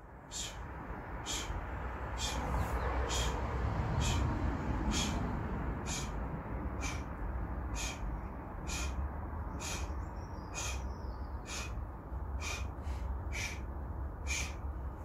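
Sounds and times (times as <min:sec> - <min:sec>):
steady low rumble: 0:00.0 - 0:15.0
man breathing hard: 0:00.2 - 0:15.0.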